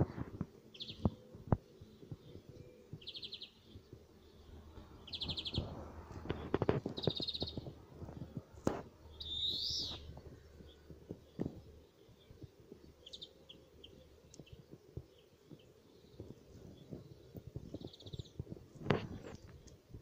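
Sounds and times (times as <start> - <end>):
rustling near microphone: 0.0 - 20.0
songbirds trilling: 0.5 - 20.0.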